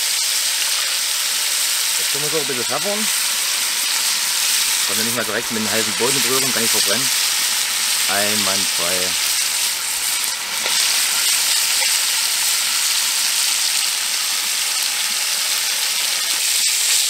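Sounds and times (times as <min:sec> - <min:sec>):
steaks sizzling in hot oil: 0:00.0 - 0:17.0.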